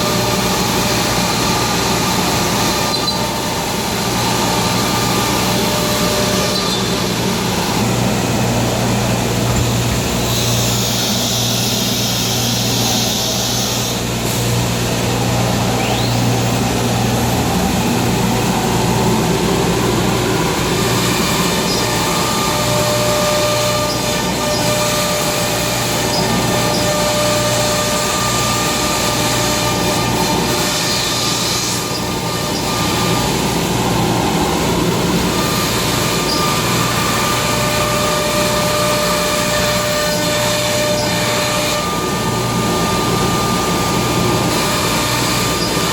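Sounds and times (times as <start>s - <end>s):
cnc router humming: 0.0s - 45.9s.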